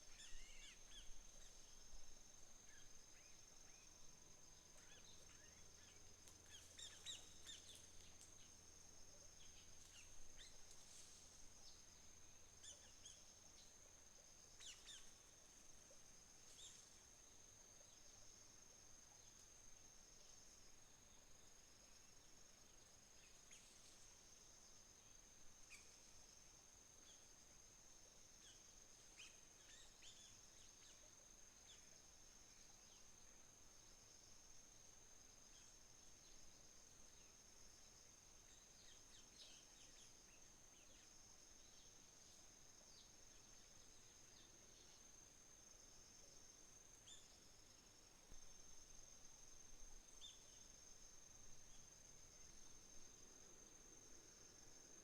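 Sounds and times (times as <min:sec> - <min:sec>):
crickets trilling: 0:00.0 - 0:55.0
patchy insect trill: 0:00.0 - 0:55.0.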